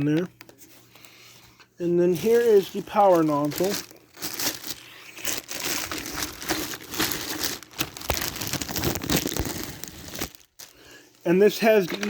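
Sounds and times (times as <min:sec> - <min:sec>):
packaging wrap crinkling: 0:00.0 - 0:11.9.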